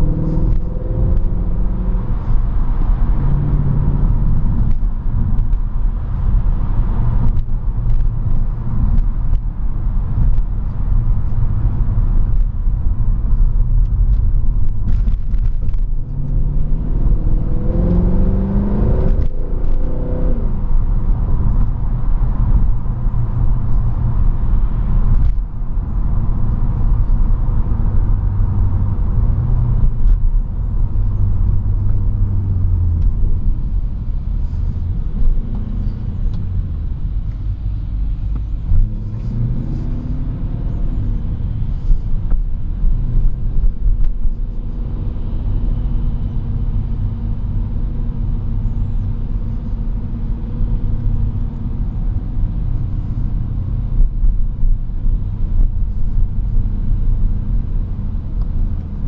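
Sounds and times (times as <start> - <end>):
car engine low rumble: 0.0 - 59.0.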